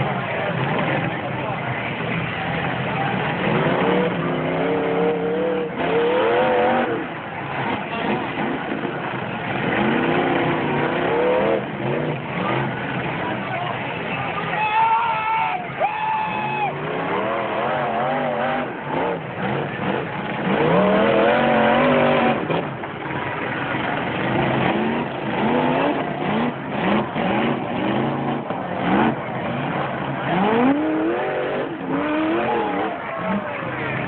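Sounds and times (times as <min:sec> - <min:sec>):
truck engines revving: 0:00.0 - 0:34.0.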